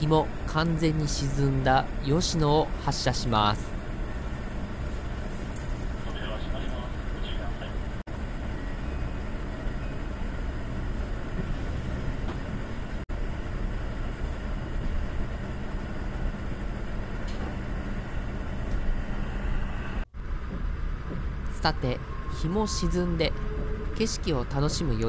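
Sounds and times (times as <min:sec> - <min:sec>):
train motors rumbling: 0:00.0 - 0:25.0.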